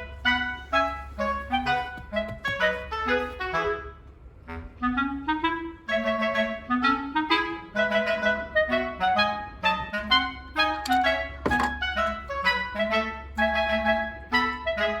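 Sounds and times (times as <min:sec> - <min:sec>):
bouncy clarinet tune: 0:00.0 - 0:15.0.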